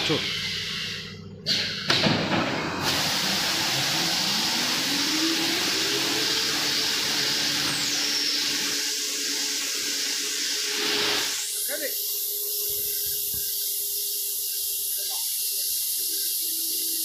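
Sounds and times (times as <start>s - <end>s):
machine hissing: 0.0s - 17.0s
motor tone rising: 2.4s - 17.0s.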